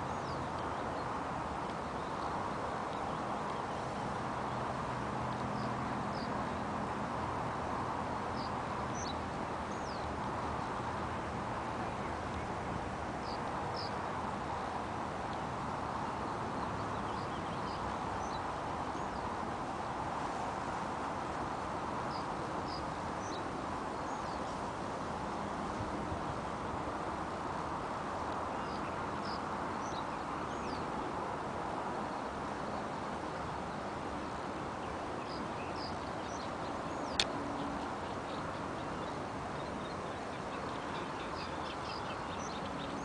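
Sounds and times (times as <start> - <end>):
outdoor background noise: 0.0 - 43.0.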